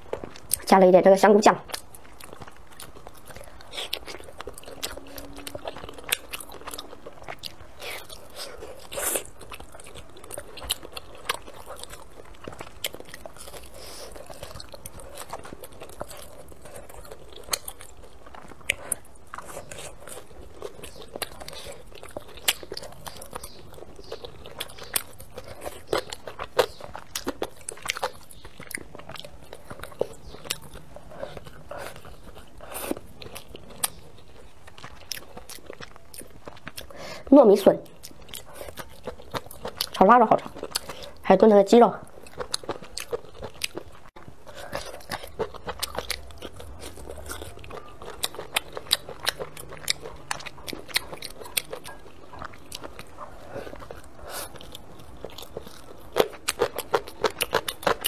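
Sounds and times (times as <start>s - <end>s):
close chewing with mouth clicks: 0.0s - 58.0s.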